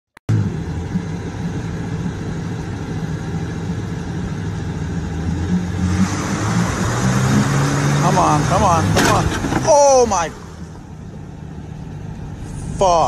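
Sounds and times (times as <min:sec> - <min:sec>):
truck engine droning: 0:00.3 - 0:13.0.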